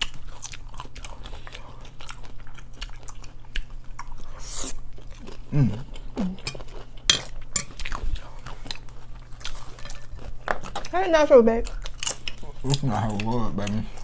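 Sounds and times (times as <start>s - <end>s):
chewing and crunching chips: 0.0s - 14.0s.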